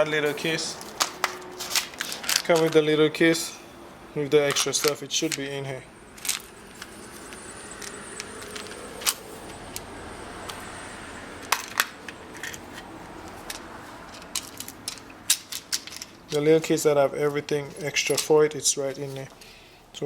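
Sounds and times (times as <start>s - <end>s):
small hard parts rattling: 0.0s - 3.6s, 4.2s - 10.8s, 11.4s - 19.6s.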